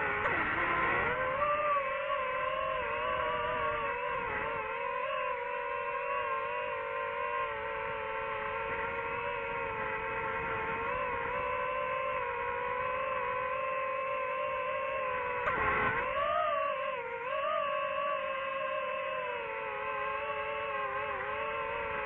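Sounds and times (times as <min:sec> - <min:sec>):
drone motors whining hum: 0:00.0 - 0:22.0.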